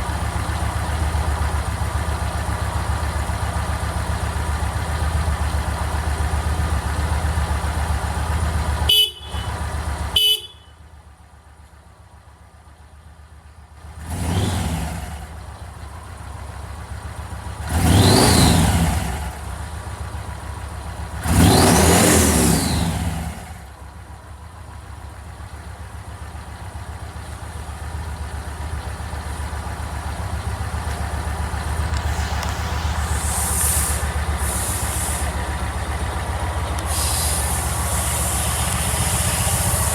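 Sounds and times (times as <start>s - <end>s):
motorcycle engine running and revving: 0.0s - 10.7s, 11.4s - 39.9s.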